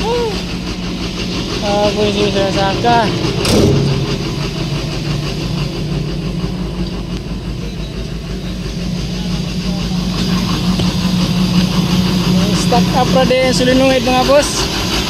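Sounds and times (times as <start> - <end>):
starter motor running: 0.2 - 15.0.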